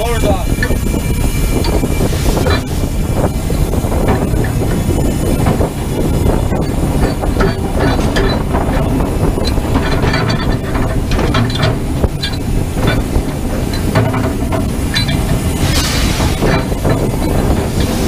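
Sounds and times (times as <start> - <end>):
clanks and rattles: 0.0 - 18.0
steam locomotive cab rumble: 0.0 - 18.0.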